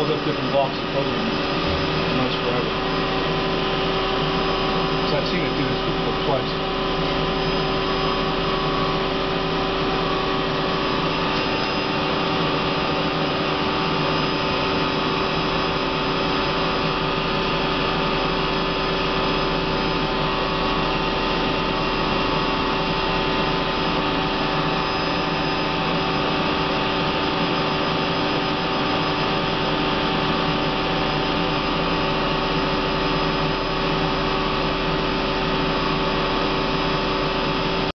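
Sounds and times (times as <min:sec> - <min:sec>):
machine hum and whine: 0:00.0 - 0:37.9.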